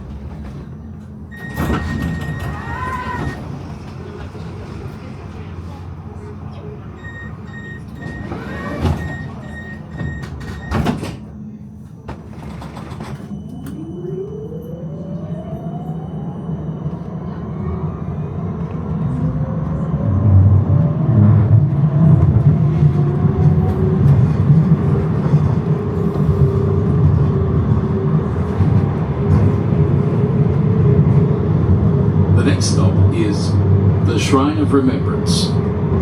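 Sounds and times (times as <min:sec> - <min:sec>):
tram motor whine: 0:00.0 - 0:36.0
wheels rumbling on rails: 0:00.0 - 0:36.0.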